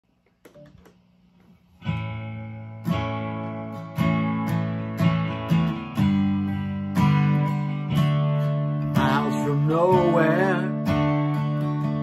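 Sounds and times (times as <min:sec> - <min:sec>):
acoustic guitar strumming chords: 0:01.8 - 0:12.0.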